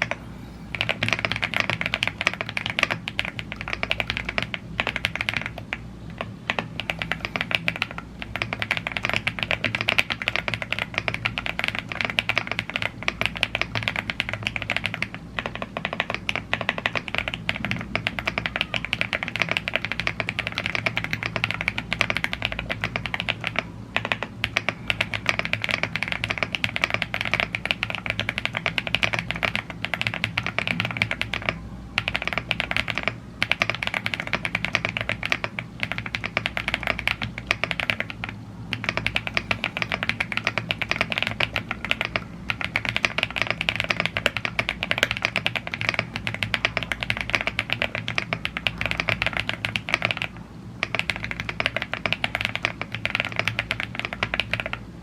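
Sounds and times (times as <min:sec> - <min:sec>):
fast typing on mechanical keyboard: 0:00.0 - 0:55.0.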